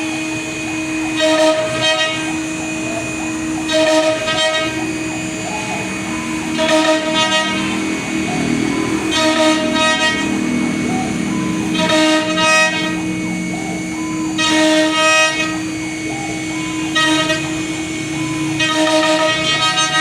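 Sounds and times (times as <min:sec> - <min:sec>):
wood router whining: 0:00.0 - 0:20.0.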